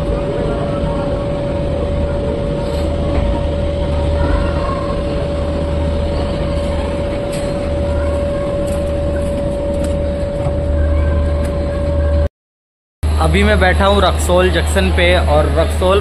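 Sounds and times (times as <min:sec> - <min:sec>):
steady high whine: 0:00.0 - 0:12.3, 0:13.0 - 0:16.0
train coach rumbling: 0:00.0 - 0:12.3, 0:13.0 - 0:16.0.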